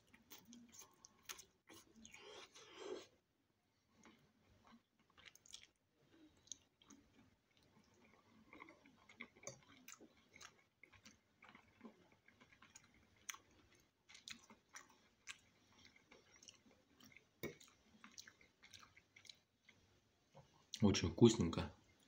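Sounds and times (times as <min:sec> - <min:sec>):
man chewing food: 0:00.0 - 0:20.8.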